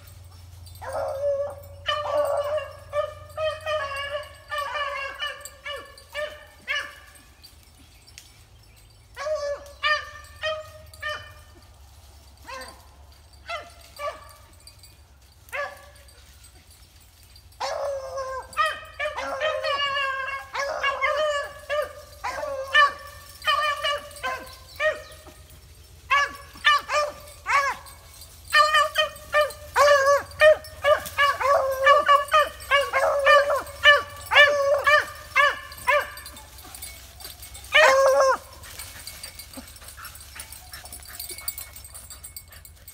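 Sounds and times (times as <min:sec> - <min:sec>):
dogs baying and barking: 0:00.0 - 0:42.9.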